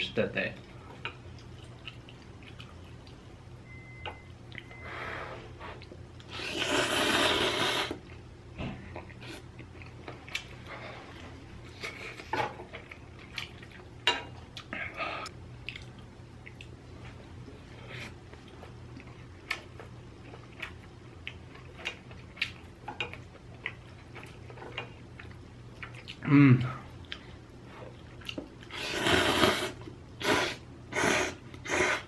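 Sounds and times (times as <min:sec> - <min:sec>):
person chewing food: 0:00.9 - 0:03.3, 0:05.7 - 0:17.2, 0:17.9 - 0:30.5.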